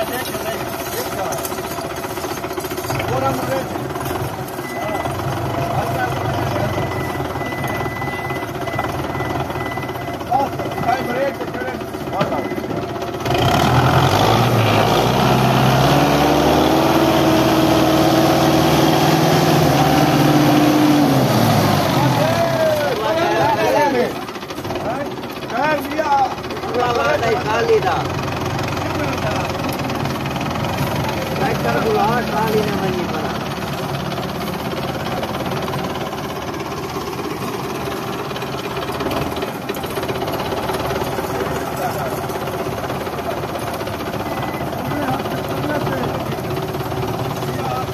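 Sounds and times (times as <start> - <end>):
tractor diesel engine under load: 0.0 - 47.9.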